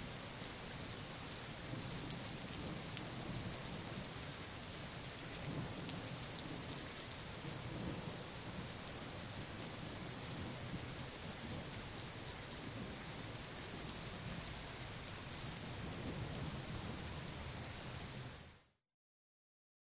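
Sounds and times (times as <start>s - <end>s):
heavy rain: 0.0s - 18.8s.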